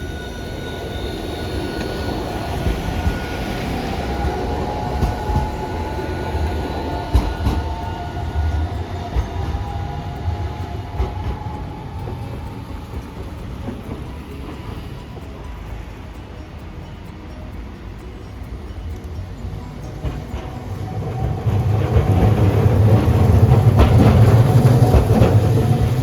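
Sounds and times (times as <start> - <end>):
tram rumbling on rails: 0.0 - 26.0
wheels clacking over rail joints: 0.0 - 26.0.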